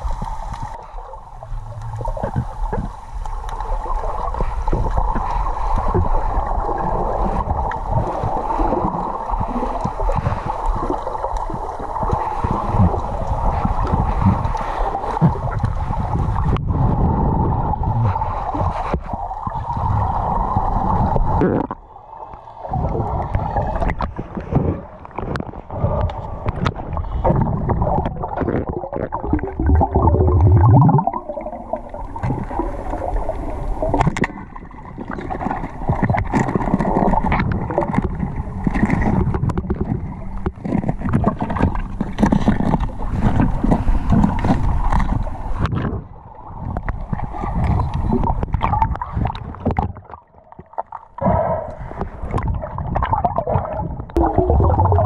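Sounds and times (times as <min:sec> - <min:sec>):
deep bubbling gurgle: 0:00.0 - 0:55.0
muffled water swirling underwater: 0:00.0 - 0:55.0.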